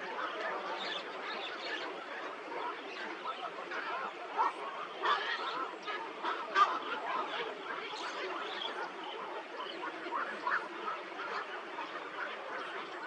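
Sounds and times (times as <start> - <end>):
flock of birds chattering: 0.0 - 13.0.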